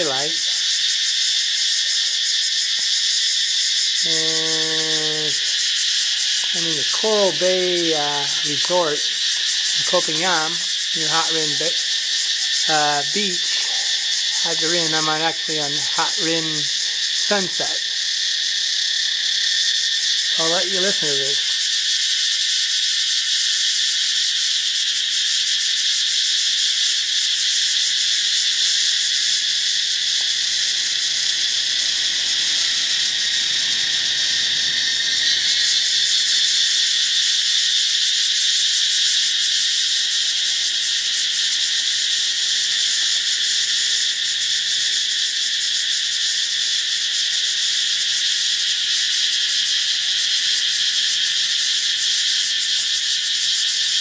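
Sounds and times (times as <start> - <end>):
katydid chorus buzzing: 0.0 - 54.0.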